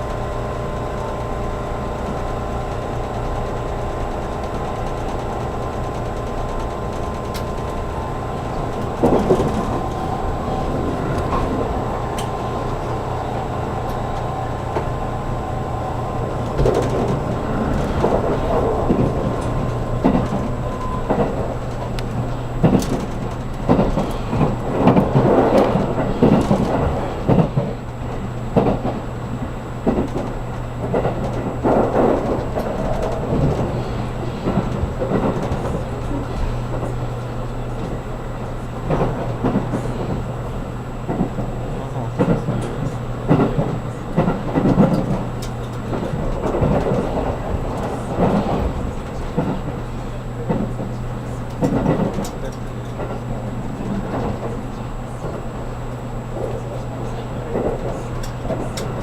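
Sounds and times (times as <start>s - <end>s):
train interior low hum: 0.0s - 59.0s
wheels rumbling on track: 0.0s - 59.0s.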